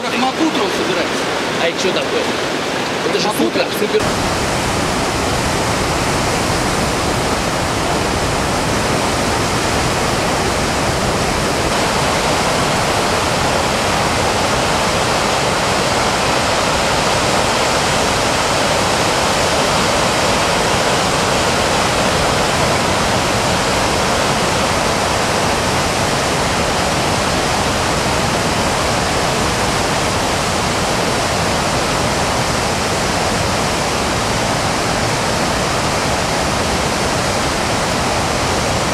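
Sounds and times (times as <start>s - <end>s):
whitewater rapids rushing over boulders: 0.0s - 38.9s.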